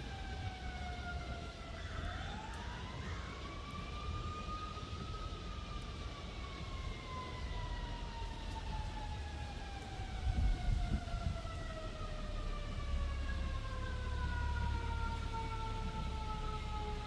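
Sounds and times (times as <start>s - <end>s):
low steady rumble: 0.0s - 17.0s
siren wailing: 0.0s - 17.0s.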